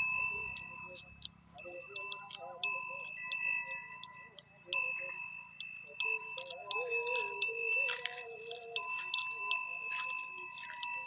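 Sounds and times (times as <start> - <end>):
faint wavering melody: 0.0 - 11.0
small metal bells ringing: 0.0 - 11.0.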